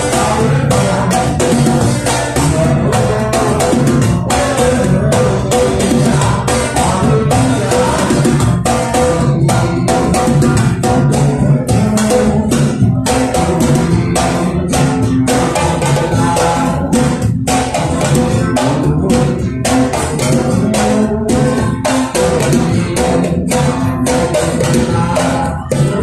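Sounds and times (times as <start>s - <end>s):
drums: 0.0s - 26.0s
guitar: 0.0s - 26.0s.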